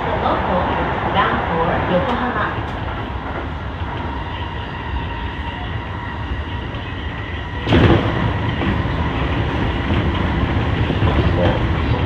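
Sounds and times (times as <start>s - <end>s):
faint train whine: 0.0s - 12.0s
train rumbling from inside: 0.0s - 12.0s.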